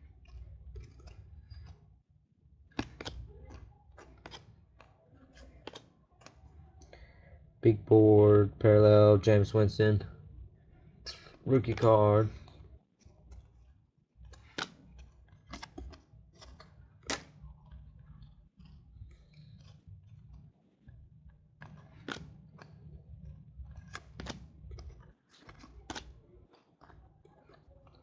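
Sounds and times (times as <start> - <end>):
trading cards flipping and sliding: 0.0 - 1.9, 2.7 - 10.0, 11.1 - 28.0.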